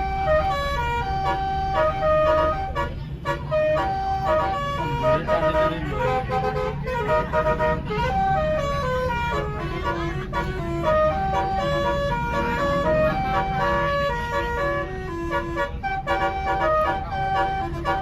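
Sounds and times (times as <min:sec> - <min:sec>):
bus engine rumble: 0:00.0 - 0:18.0
multi-tone bus horn melody: 0:00.0 - 0:18.0.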